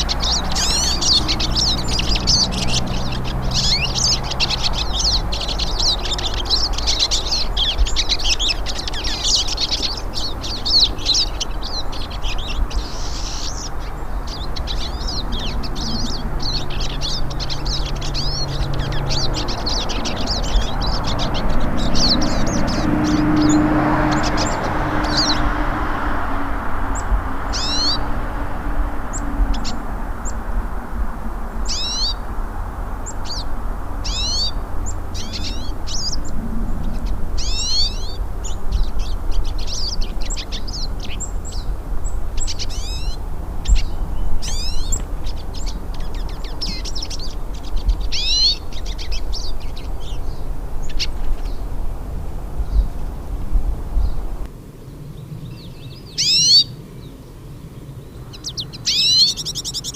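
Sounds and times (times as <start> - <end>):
siskins twittering: 0.0 - 54.5, 55.5 - 57.1, 58.1 - 59.9.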